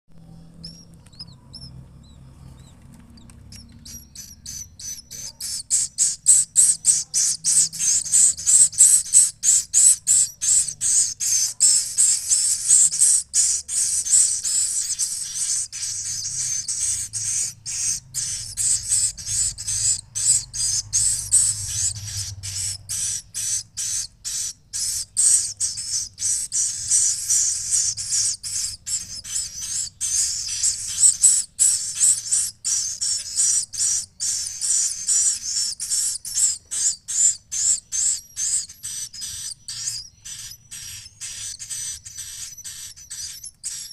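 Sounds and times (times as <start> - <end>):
bird chicks chirping: 0.1 - 43.9.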